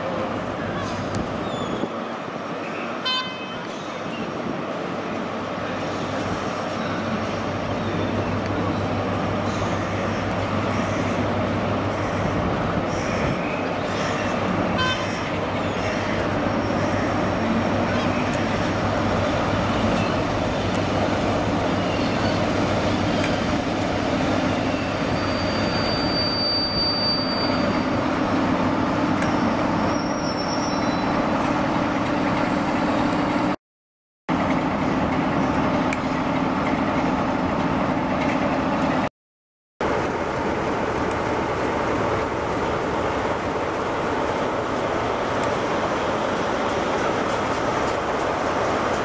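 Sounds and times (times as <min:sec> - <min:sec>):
diesel locomotive engine drone: 0:00.0 - 0:33.6, 0:34.3 - 0:39.1, 0:39.8 - 0:49.0
train power car passing: 0:00.0 - 0:33.6, 0:34.3 - 0:39.1, 0:39.8 - 0:49.0.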